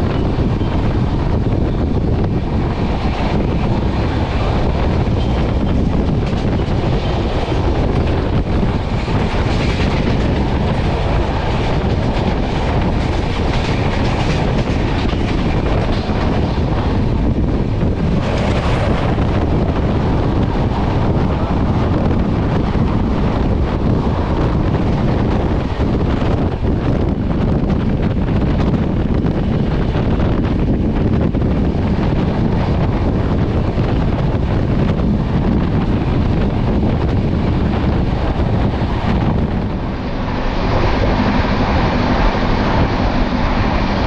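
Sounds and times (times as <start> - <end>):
train wheels rumbling on track: 0.0 - 44.0.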